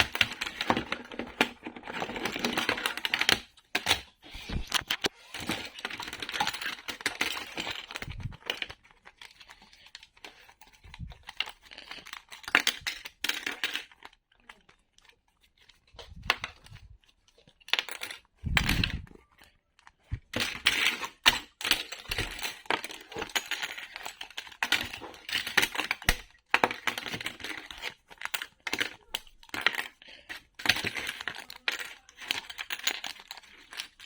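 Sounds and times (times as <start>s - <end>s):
puzzle pieces clicking and snapping: 0.0s - 14.7s, 17.7s - 19.1s, 19.9s - 34.0s.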